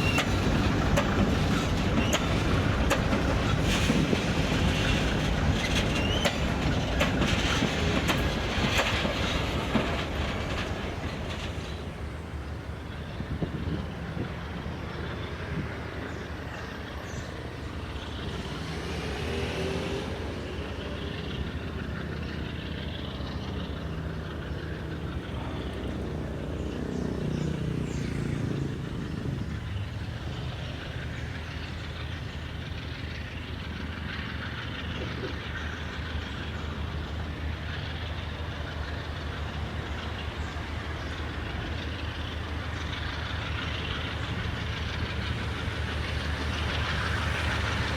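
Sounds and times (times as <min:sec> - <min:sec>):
diesel engine hum: 0:00.0 - 0:47.9
train wheels on rails: 0:00.0 - 0:47.9.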